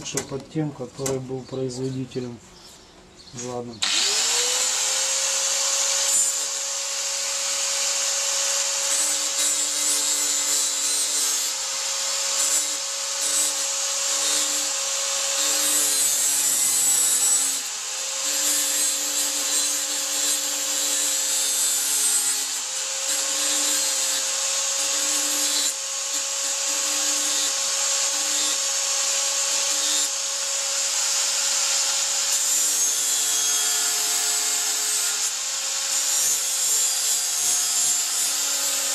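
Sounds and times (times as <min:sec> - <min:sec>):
angle grinder grinding steel: 0:03.4 - 0:38.9.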